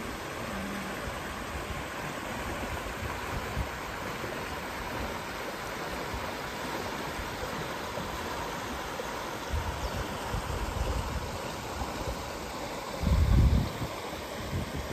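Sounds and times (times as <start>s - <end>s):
stream rushing over stones: 0.0s - 14.9s.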